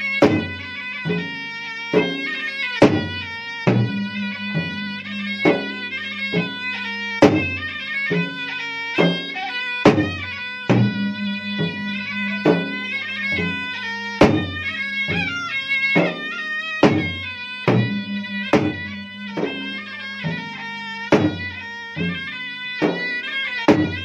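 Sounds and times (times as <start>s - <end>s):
hand drums beating: 0.0s - 24.0s
reedy pipe melody: 0.0s - 24.0s.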